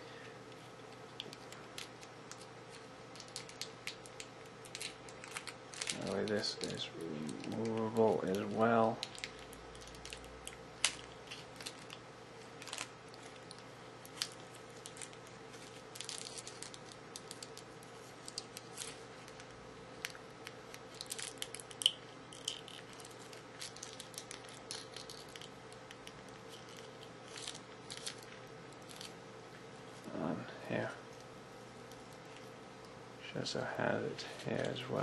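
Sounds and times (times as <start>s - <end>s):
plastic wrapping crinkling: 0.6s - 29.2s.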